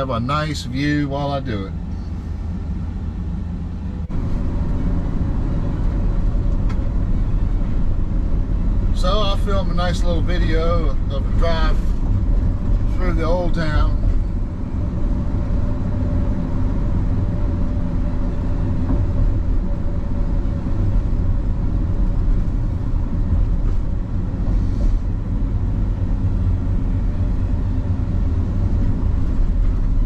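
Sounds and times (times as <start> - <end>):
vehicle engine and tyres rumbling: 0.0 - 30.0.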